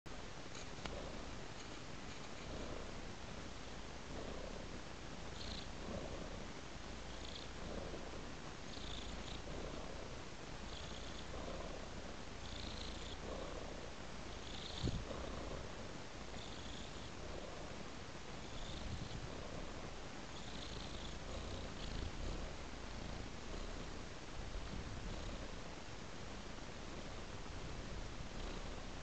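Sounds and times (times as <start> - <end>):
cat purring: 0.1 - 29.0.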